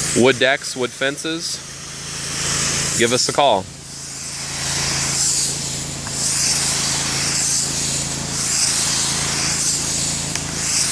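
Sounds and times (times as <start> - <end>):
liquid spray hissing on concrete: 0.0 - 10.9
spraying equipment motor hum: 0.0 - 10.9.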